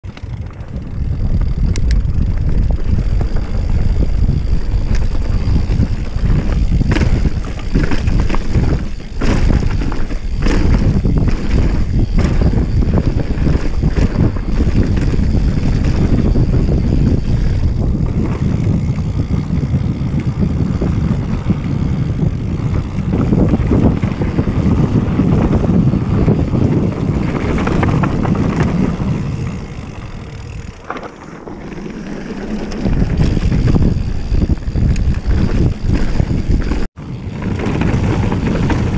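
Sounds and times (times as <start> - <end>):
bike knocks and rattles: 0.0 - 38.9
tyres rumbling on gravel: 0.0 - 38.9
wind buffeting microphone: 0.0 - 38.9.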